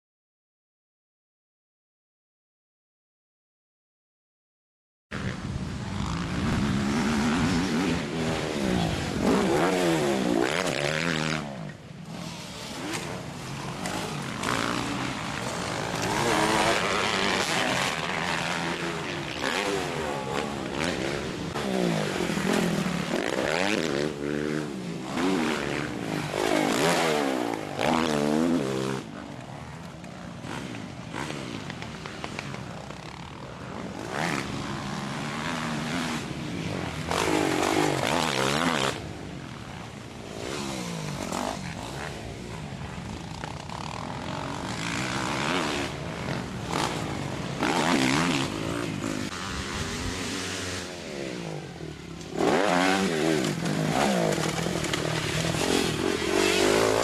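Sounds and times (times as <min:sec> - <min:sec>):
motocross bike engines revving: 0:05.2 - 0:57.0.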